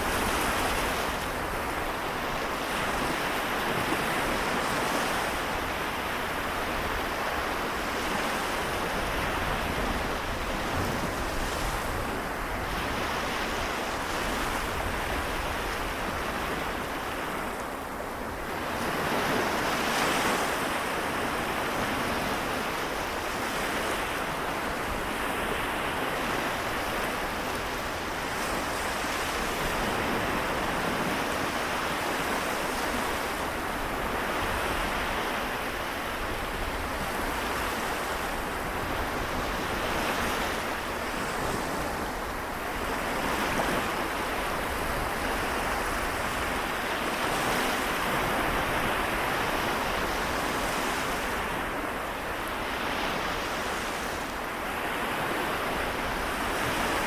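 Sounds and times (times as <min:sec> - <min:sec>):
sea waves washing in: 0:00.0 - 0:57.0.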